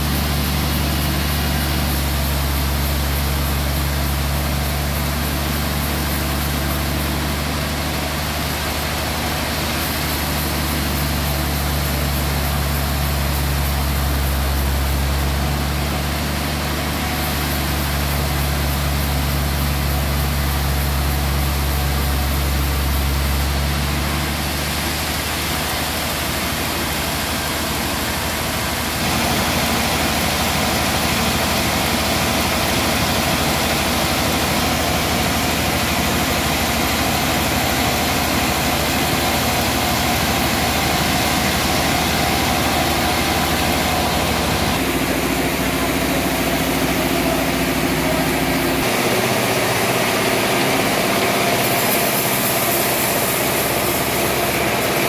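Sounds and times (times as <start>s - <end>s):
band sawmill sawing log: 0.0s - 55.0s.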